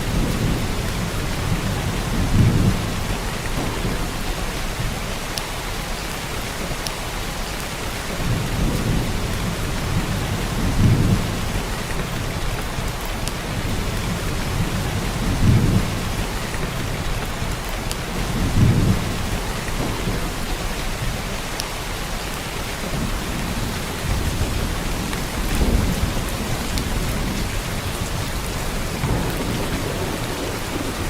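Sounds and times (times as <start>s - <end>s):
thunder rumbling: 0.0s - 5.3s, 8.1s - 31.0s
heavy rain downpour: 0.0s - 31.0s.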